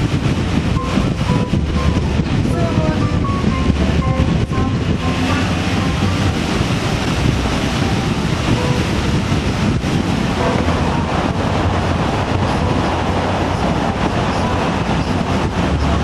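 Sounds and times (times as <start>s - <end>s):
road and engine noise: 0.0s - 16.0s
wind rushing over microphone: 0.0s - 16.0s.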